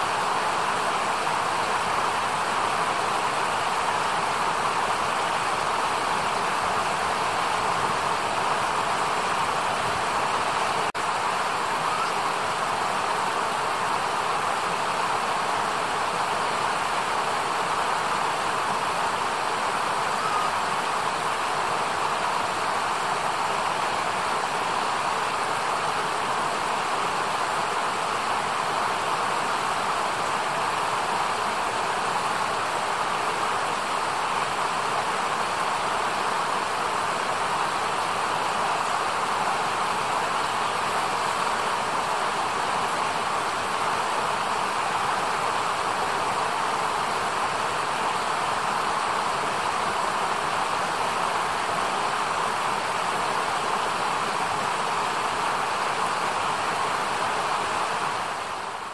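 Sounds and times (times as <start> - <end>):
stream running over rocks: 0.0 - 58.9.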